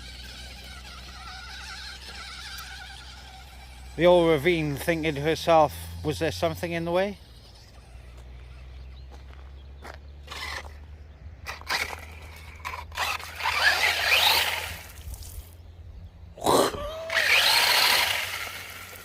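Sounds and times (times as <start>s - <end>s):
toy truck motor whining: 0.0s - 15.6s, 16.5s - 19.0s
wheels spinning and scrabbling: 0.0s - 19.0s.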